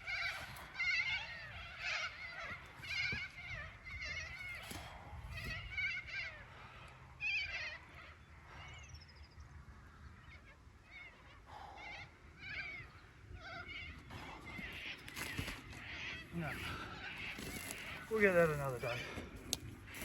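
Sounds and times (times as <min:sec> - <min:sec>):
birds calling harshly: 0:00.0 - 0:20.0.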